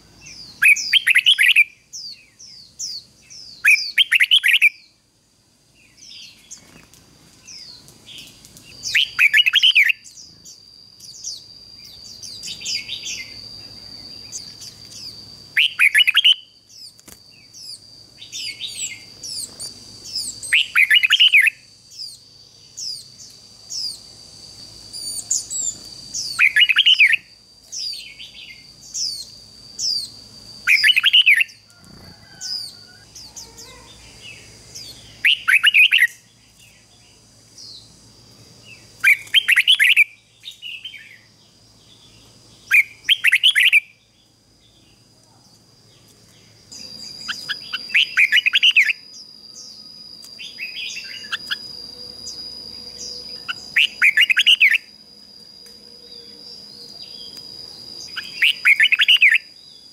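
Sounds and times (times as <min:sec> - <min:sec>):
bird singing loud phrases: 0:00.2 - 0:05.0, 0:05.7 - 0:24.1, 0:24.8 - 0:38.0, 0:38.6 - 0:55.0, 0:56.0 - 0:59.9.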